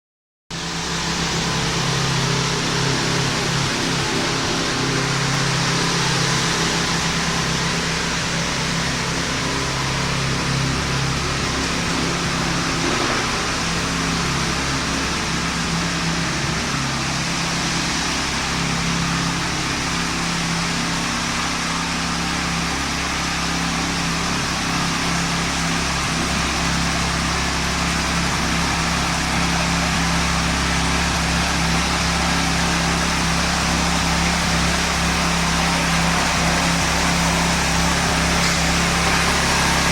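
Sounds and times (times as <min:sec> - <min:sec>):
heavy diesel engine running: 0:00.5 - 0:39.9.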